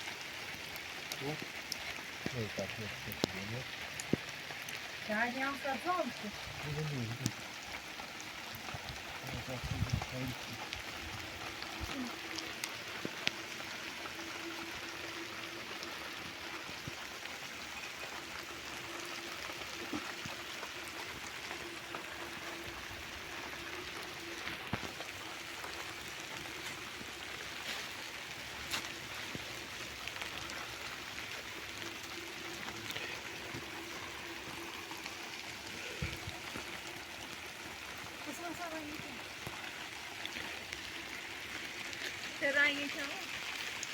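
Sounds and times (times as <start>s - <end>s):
rushing water: 0.0s - 43.9s.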